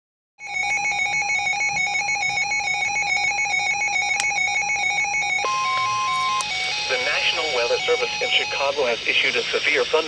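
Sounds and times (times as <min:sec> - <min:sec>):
warbling electronic alert tone: 0:00.4 - 0:09.0.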